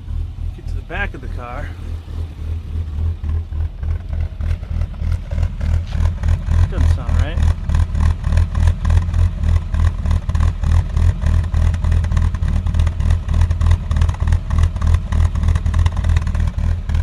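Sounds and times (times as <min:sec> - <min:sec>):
car exhaust at rough idle: 0:00.0 - 0:17.0.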